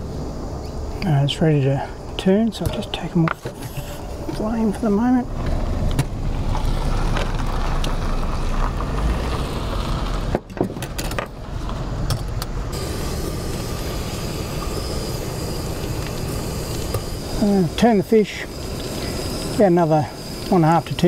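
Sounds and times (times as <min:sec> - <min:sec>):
gas stove roaring: 0:00.0 - 0:21.0.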